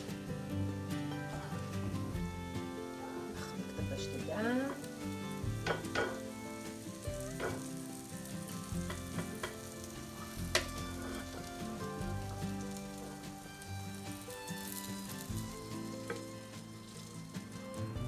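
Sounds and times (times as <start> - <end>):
hot oil sizzling in a pan: 0.0 - 18.0
soft background music: 0.0 - 18.0.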